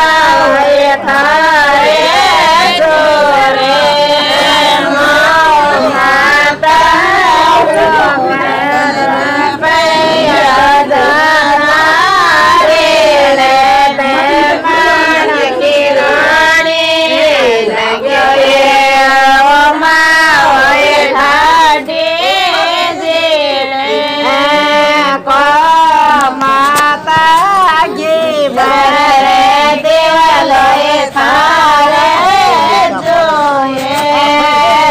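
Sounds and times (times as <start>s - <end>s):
woman singing devotional song: 0.0s - 34.9s.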